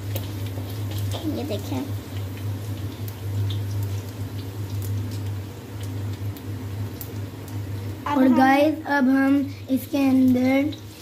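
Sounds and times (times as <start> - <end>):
garlic sizzling in hot oil: 0.0 - 11.0
steady low hum: 0.0 - 11.0.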